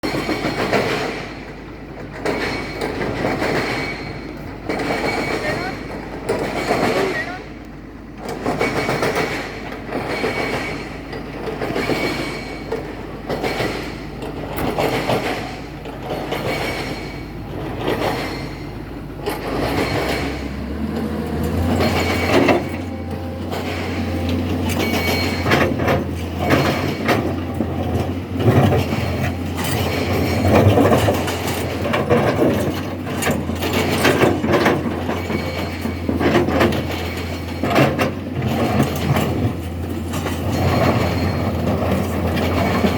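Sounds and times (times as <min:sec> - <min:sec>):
excavator engine hum: 0:00.0 - 0:42.9.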